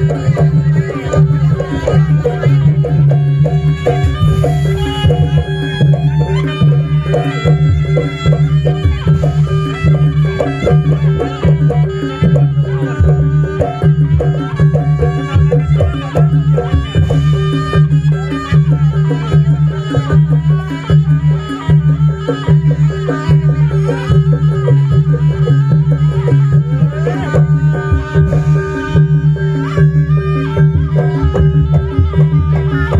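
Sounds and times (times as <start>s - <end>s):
fast busy drumming: 0.0s - 32.9s
wavering melody line: 0.0s - 32.9s.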